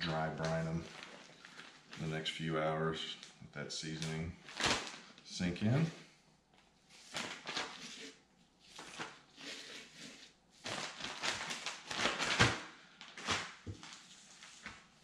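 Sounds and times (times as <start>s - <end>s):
plastic bag crinkling: 0.0s - 5.8s, 7.0s - 10.0s, 10.6s - 15.0s.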